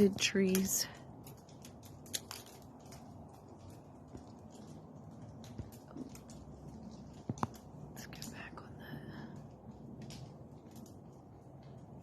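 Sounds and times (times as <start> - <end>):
seed pods pattering on dry leaves: 0.0 - 12.0.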